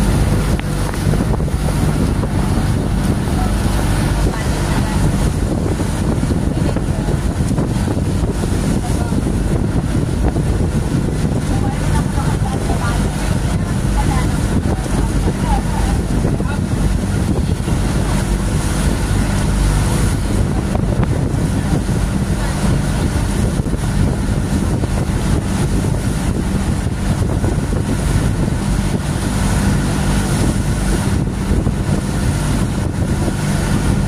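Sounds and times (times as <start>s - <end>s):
boat engine humming: 0.0s - 34.0s
water rushing and splashing: 0.0s - 34.0s
wind buffeting microphone: 0.0s - 34.0s.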